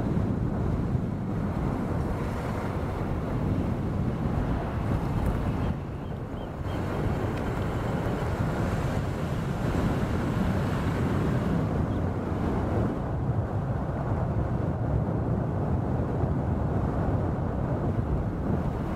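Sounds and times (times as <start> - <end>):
strong wind blowing: 0.0 - 18.9.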